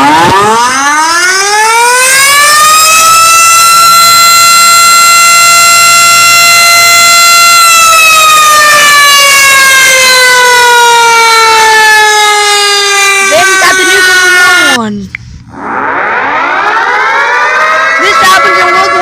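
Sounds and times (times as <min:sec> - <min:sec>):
warning siren winding down: 0:00.0 - 0:14.9, 0:15.5 - 0:19.0.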